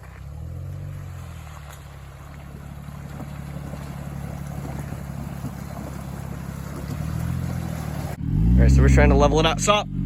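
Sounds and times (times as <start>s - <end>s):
car engine running low: 0.0s - 10.0s.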